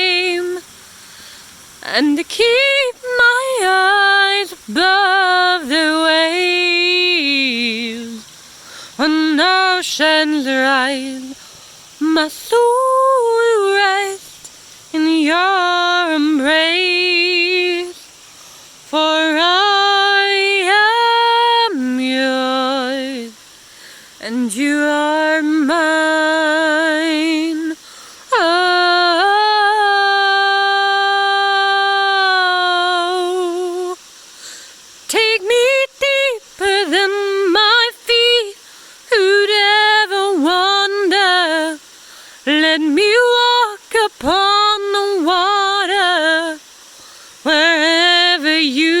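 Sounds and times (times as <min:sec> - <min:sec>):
woman singing unaccompanied: 0:00.0 - 0:00.8, 0:01.8 - 0:34.2, 0:34.9 - 0:49.0.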